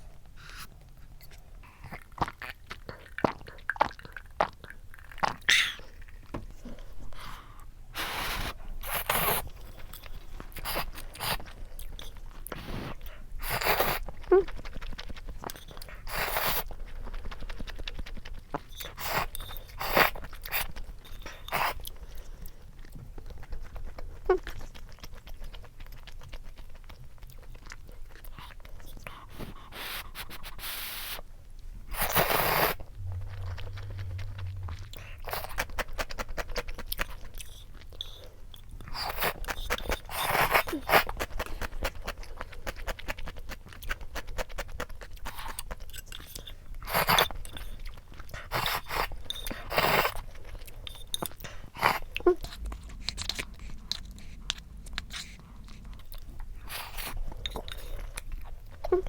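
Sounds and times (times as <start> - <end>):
person chewing food: 0.2 - 59.0.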